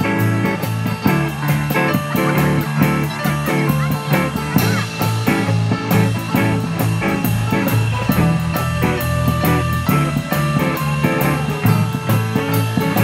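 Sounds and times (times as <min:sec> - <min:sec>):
bass line: 0:00.0 - 0:13.0
live band playing upbeat song: 0:00.0 - 0:13.0.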